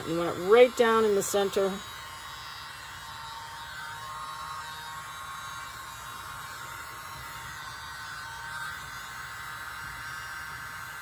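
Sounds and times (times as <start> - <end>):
small electric blower whine: 0.0 - 11.0.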